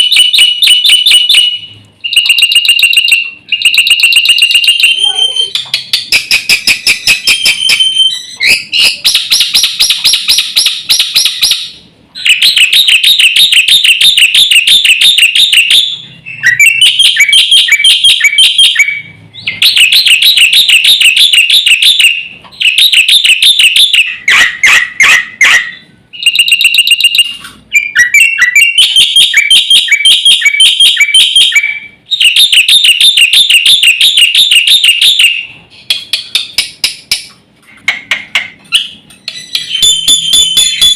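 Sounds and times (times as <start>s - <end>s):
starling singing shrill notes: 0.0s - 35.5s, 38.8s - 40.9s.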